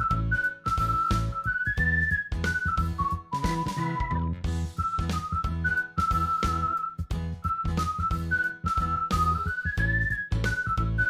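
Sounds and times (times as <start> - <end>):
whistle-like melody over beat: 0.0 - 11.0.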